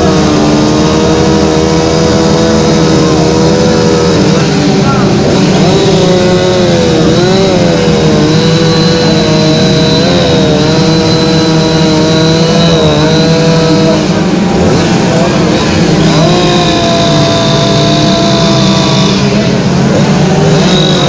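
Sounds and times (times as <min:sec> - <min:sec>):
chainsaws cutting wood: 0:00.0 - 0:21.0.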